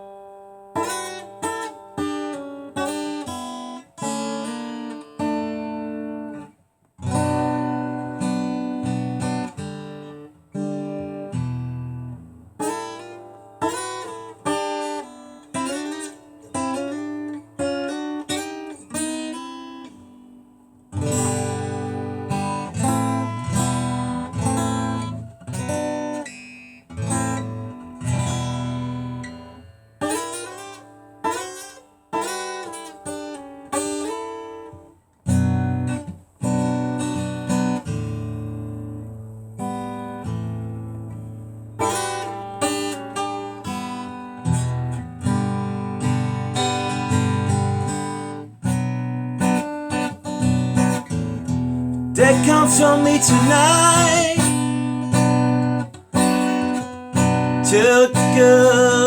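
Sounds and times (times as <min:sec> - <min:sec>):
acoustic guitar strummed and picked: 0:00.0 - 0:59.0.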